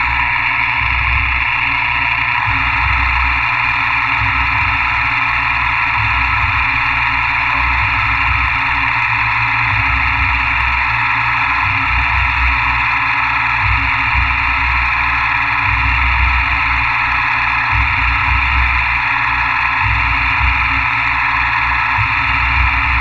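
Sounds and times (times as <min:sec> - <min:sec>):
milling machine running: 0:00.0 - 0:23.0.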